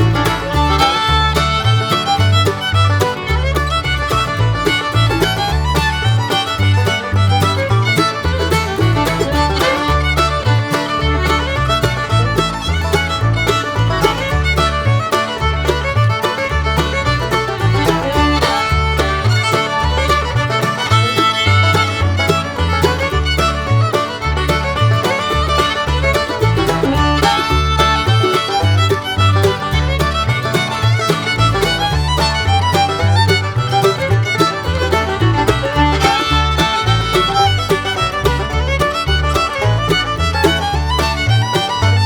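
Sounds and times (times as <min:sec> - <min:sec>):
bass beat: 0:00.0 - 0:42.0
upbeat fiddle music: 0:00.0 - 0:42.0.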